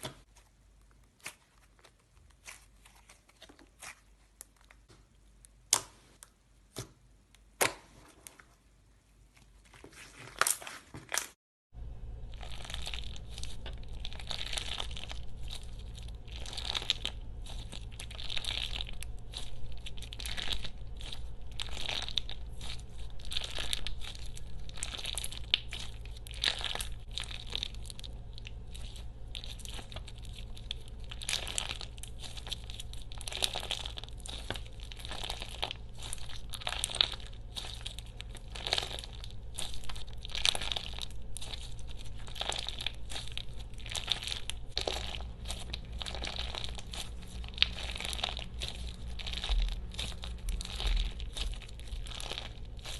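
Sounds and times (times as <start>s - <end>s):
slime squeezed crackling and popping: 10.3s - 52.9s.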